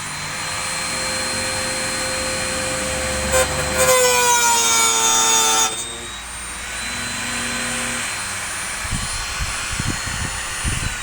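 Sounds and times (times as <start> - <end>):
power tool motor cutting: 0.0 - 11.0.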